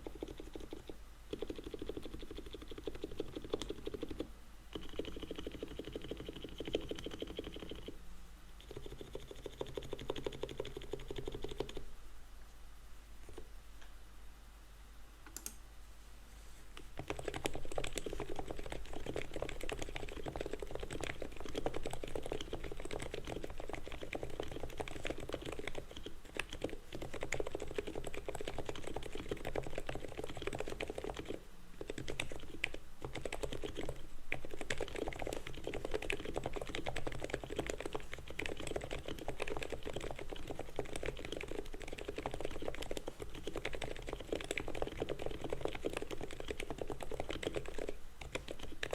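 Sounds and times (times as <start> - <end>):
mechanical keyboard typing: 0.0 - 7.9, 8.6 - 11.8, 17.0 - 48.9.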